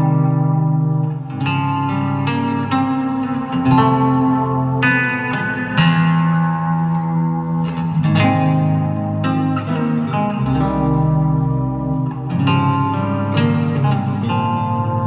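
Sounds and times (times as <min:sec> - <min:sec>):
fingerpicked nylon-string guitar: 0:00.0 - 0:15.0.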